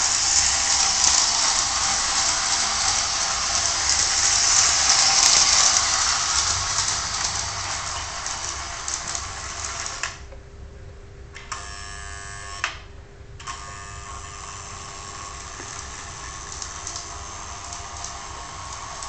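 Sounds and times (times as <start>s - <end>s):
toy train motor whirring: 0.0s - 10.2s, 13.4s - 19.0s.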